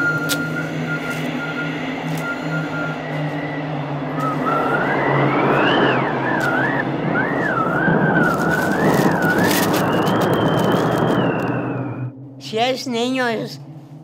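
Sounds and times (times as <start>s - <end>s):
high wavering whistle: 0.0s - 12.7s.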